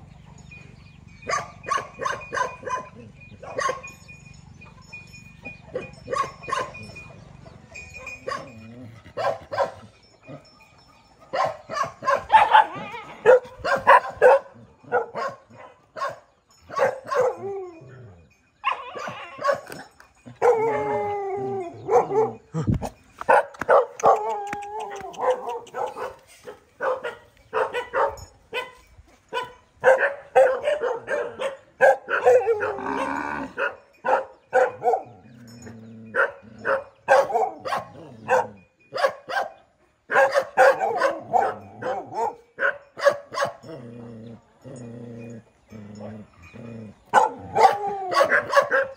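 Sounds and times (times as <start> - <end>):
dogs barking and yelping: 0.0 - 48.9
dogs whining: 0.3 - 38.7, 40.1 - 48.9.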